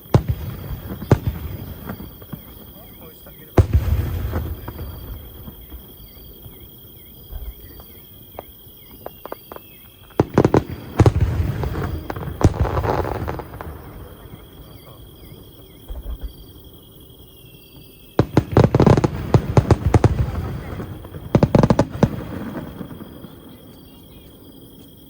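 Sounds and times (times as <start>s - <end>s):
fireworks booming and crackling: 0.0s - 25.0s
insects chirping: 0.0s - 25.0s.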